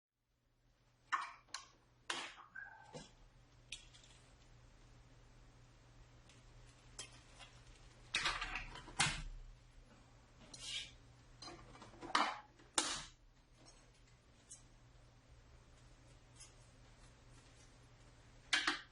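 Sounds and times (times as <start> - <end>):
low steady hum: 0.3 - 18.9.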